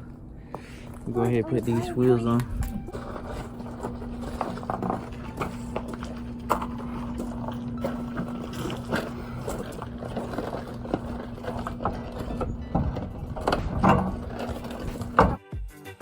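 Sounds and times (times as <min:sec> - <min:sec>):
steady low hum: 0:00.0 - 0:15.4
wheel and lug nuts clinking: 0:00.0 - 0:15.4.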